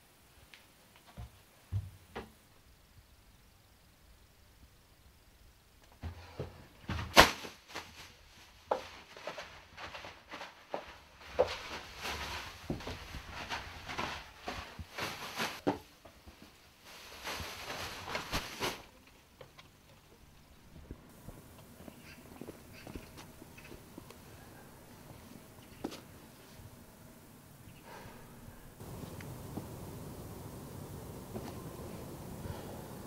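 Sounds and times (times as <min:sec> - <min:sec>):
rustling handling noise: 0:05.9 - 0:32.7.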